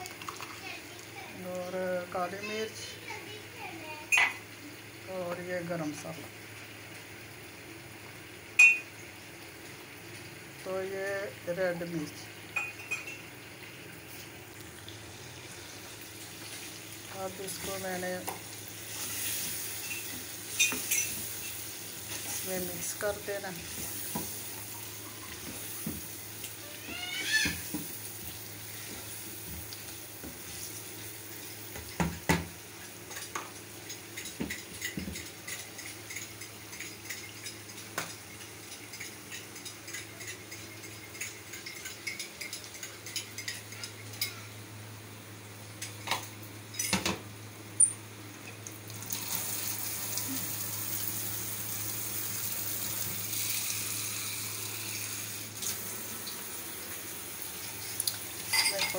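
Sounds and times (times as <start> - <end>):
water running: 0.0 - 44.5, 48.4 - 58.9
faint sizzle: 0.0 - 58.9.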